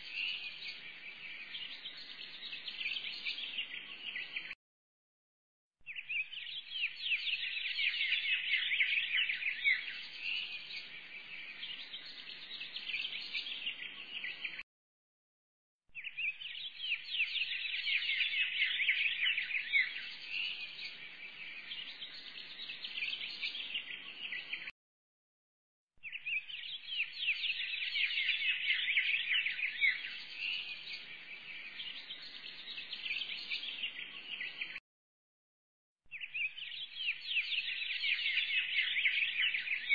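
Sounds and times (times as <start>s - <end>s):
small birds chirping: 0.0s - 4.6s, 5.8s - 14.6s, 15.9s - 24.7s, 26.0s - 34.8s, 36.1s - 39.9s.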